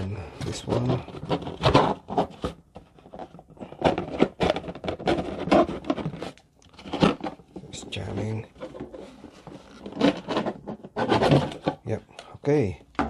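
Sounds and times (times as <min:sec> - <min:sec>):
parts scraping and rustling in box: 0:00.2 - 0:12.0.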